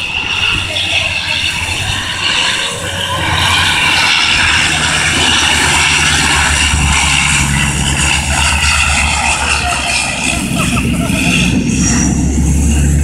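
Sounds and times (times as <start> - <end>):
propeller plane flying low overhead: 0.0 - 13.0.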